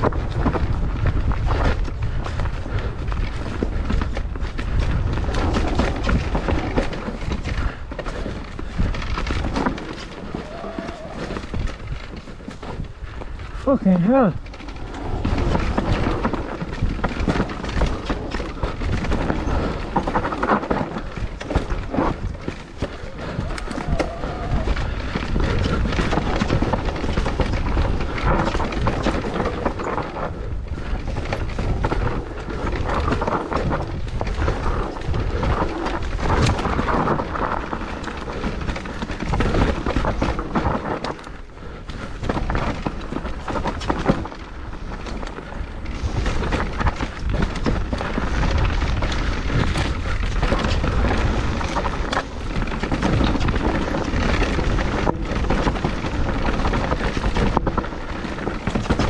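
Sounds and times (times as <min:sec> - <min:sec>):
bike rattling: 0:00.0 - 0:59.0
bike tyre noise: 0:00.0 - 0:59.0
wind rumble on microphone: 0:00.0 - 0:59.0.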